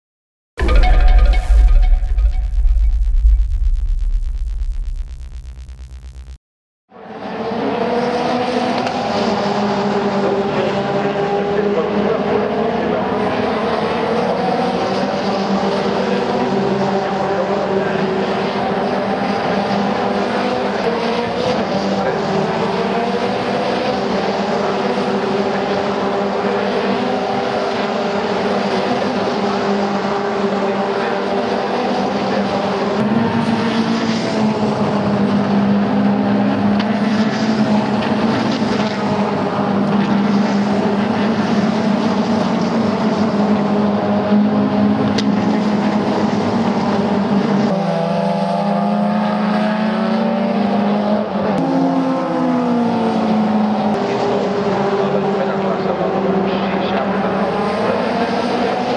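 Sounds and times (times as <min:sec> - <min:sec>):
race car engines revving: 0:07.0 - 0:58.9.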